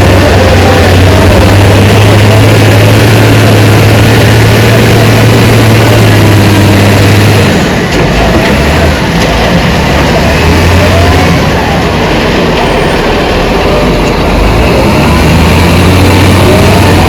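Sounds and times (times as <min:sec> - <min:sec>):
heavy diesel engine drone: 0:00.0 - 0:17.0.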